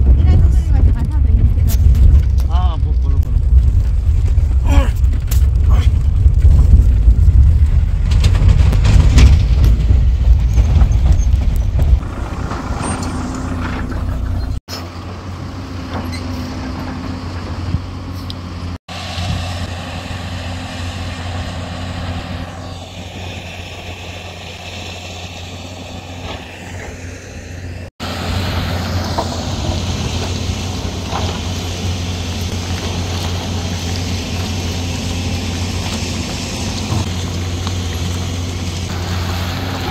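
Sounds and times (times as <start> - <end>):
vehicle rumbling on dirt road: 0.0 - 39.9.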